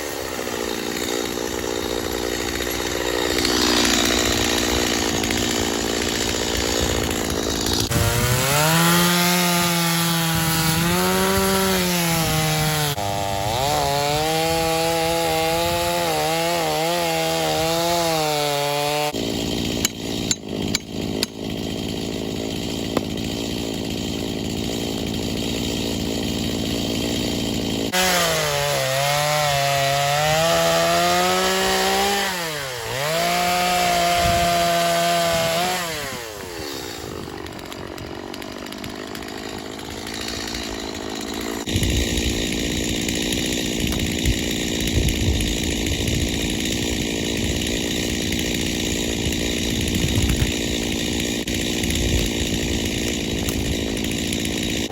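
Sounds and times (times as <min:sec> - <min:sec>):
chainsaw cutting logs: 0:00.0 - 0:54.9.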